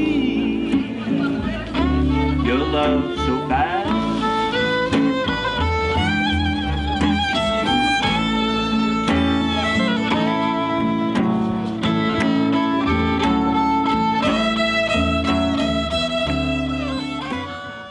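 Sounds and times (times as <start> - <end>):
guitar: 0.0 - 17.9
low bass notes: 0.0 - 17.9
violin melody: 0.0 - 17.9.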